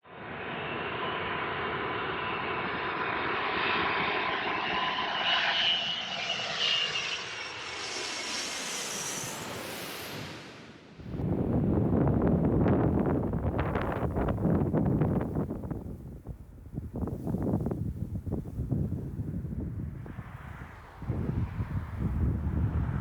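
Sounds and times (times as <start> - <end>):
jet airliner engines roaring: 0.1 - 16.9, 18.6 - 23.0.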